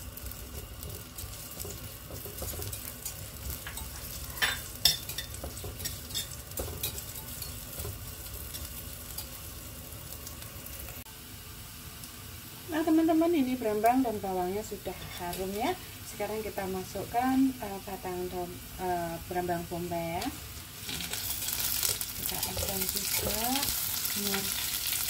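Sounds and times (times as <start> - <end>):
shallots sizzling in hot oil: 0.0 - 25.0.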